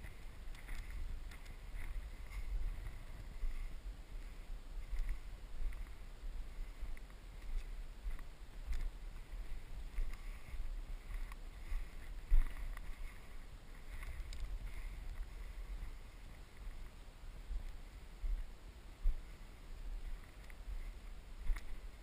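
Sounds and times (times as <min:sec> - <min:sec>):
low muffled rumble of movement: 0:00.0 - 0:22.0
muffled wind buffeting: 0:00.0 - 0:22.0.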